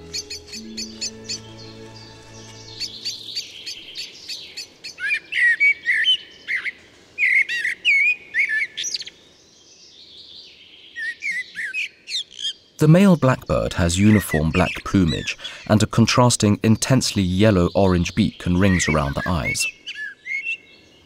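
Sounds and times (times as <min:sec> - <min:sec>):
blackbird singing: 0:00.0 - 0:21.0.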